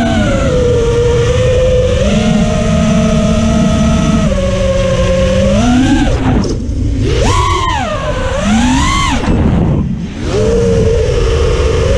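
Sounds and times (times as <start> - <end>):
drone motors whining: 0.0 - 11.9
wind noise on microphone: 0.0 - 11.9.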